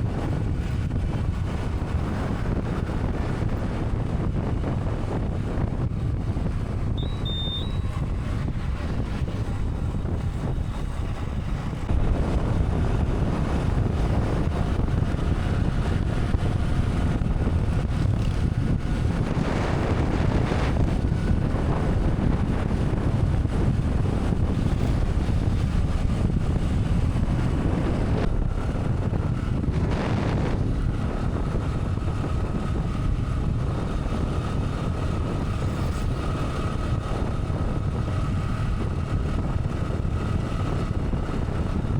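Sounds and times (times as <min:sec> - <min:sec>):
motorcycle engine: 0:00.0 - 0:41.9
road noise: 0:00.0 - 0:41.9
wind buffeting microphone: 0:00.0 - 0:41.9.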